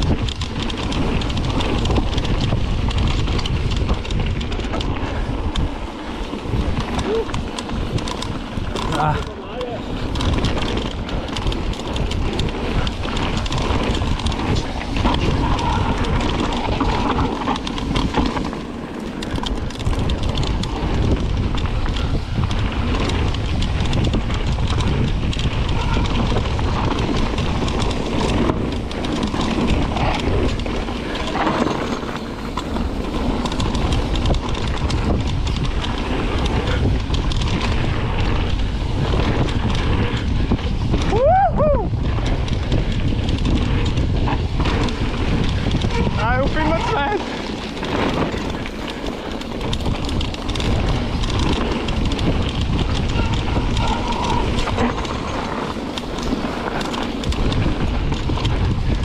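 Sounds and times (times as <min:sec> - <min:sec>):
bike rattling: 0:00.0 - 0:59.0
wind buffeting microphone: 0:00.0 - 0:59.0.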